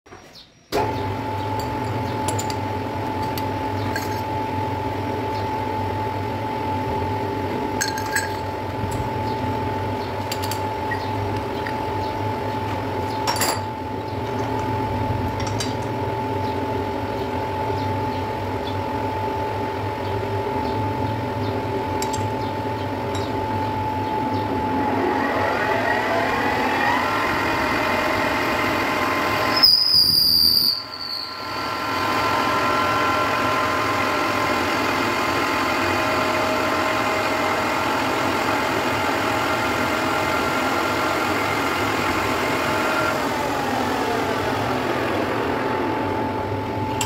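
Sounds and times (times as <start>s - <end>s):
machine hum with high whine: 0.1s - 47.0s.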